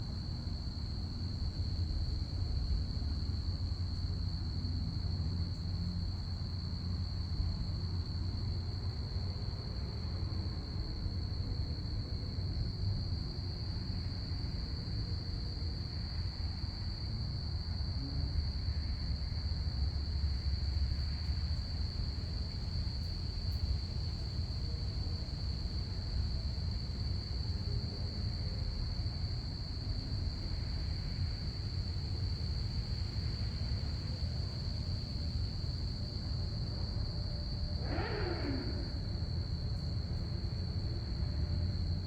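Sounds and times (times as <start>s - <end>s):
continuous low rumble: 0.0s - 42.0s
crickets trilling: 0.0s - 42.0s.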